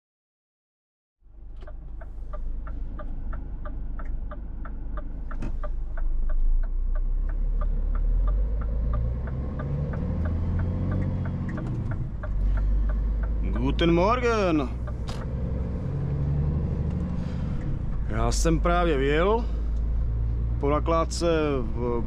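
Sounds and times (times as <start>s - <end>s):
diesel truck engine running: 1.3s - 22.0s
turn signal ticking: 1.3s - 22.0s.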